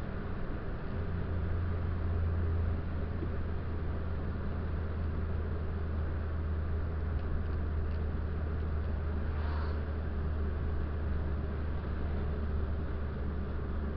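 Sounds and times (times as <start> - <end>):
car engine droning: 0.0 - 13.9
road noise: 0.0 - 13.9.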